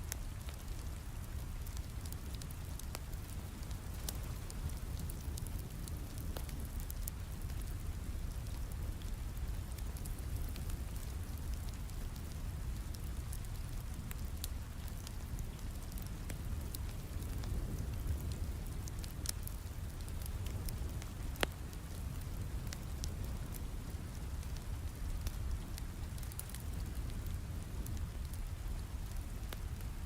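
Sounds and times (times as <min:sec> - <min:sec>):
steady rain: 0:00.0 - 0:30.0
wood fire crackling and popping: 0:00.0 - 0:30.0.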